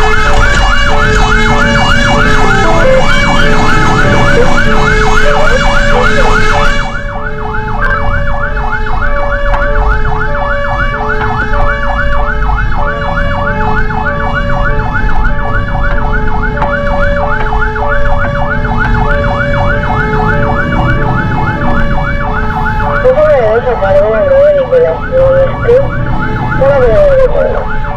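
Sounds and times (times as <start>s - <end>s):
truck engine rumbling: 0.0s - 27.9s
two-tone hi-lo siren: 0.0s - 27.9s
yelp siren: 0.0s - 27.9s.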